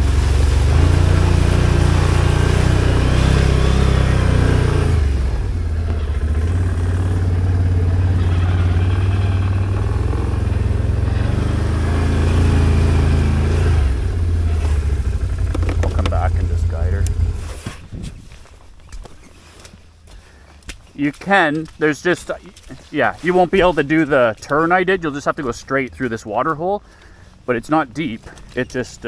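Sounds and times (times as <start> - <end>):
atv engine running: 0.0 - 17.8, 20.5 - 29.0.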